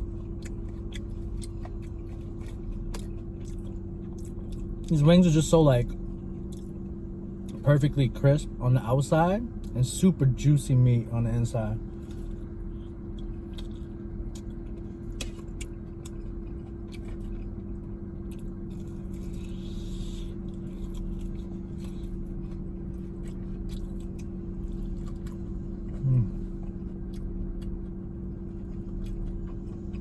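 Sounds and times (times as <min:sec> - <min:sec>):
chewing crispy chicken: 0:00.0 - 0:08.2, 0:09.1 - 0:30.0
car idling with air conditioning: 0:00.0 - 0:30.0.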